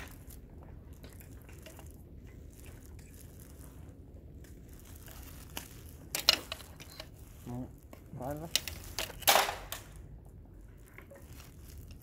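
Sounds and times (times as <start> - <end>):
faint rustles: 0.0 - 12.0
low steady rumble: 0.0 - 12.0.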